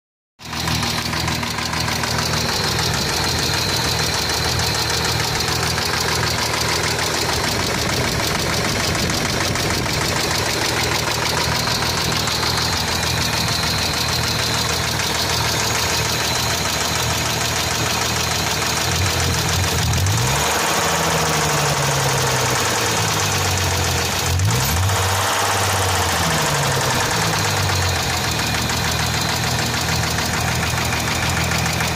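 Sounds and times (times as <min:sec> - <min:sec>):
car engine knocking tick: 0:00.4 - 0:20.4, 0:26.0 - 0:31.9
car engine revving: 0:00.4 - 0:31.9.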